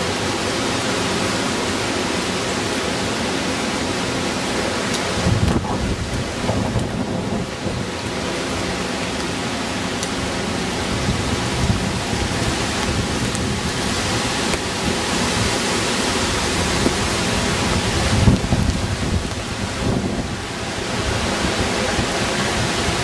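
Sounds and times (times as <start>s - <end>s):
heavy rain: 0.0s - 23.0s
hurricane wind: 0.0s - 23.0s.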